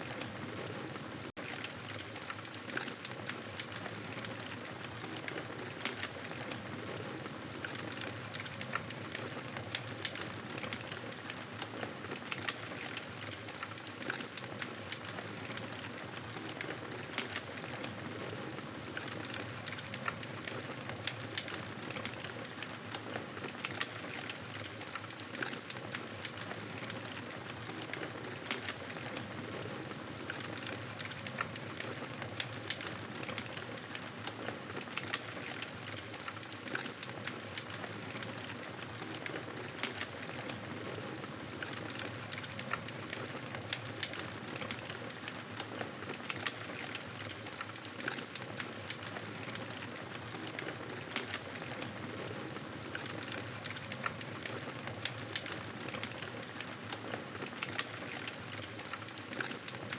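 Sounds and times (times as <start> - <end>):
campfire crackling and popping: 7.5 - 59.9.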